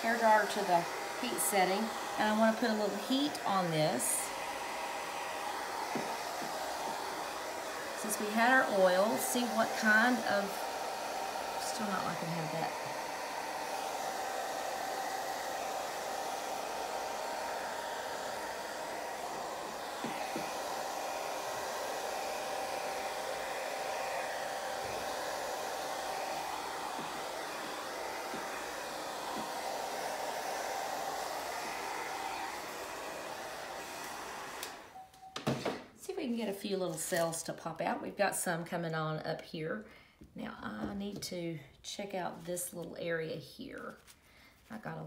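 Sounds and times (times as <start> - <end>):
hair dryer blowing: 0.0 - 38.4.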